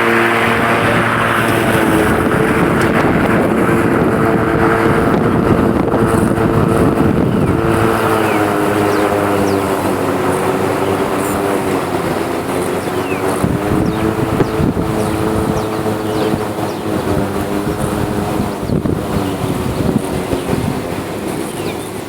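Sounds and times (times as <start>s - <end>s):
electric lawn mower humming: 0.0s - 22.0s.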